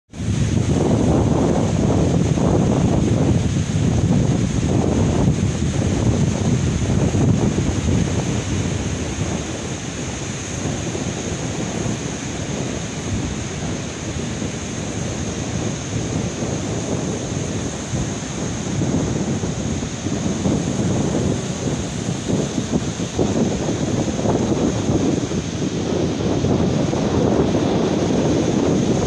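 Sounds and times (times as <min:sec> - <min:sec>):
surf breaking on beach: 0:00.1 - 0:29.0
wind on microphone: 0:00.1 - 0:29.0.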